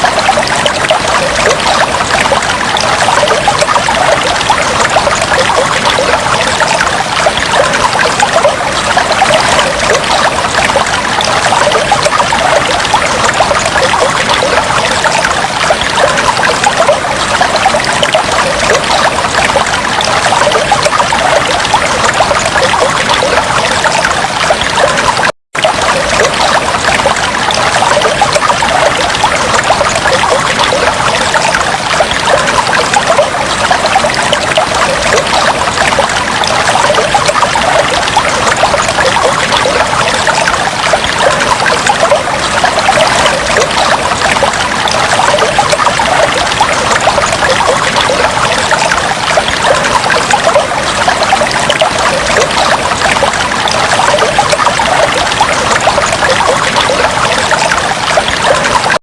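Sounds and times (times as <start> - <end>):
water trickling in fish tank: 0.0 - 59.0.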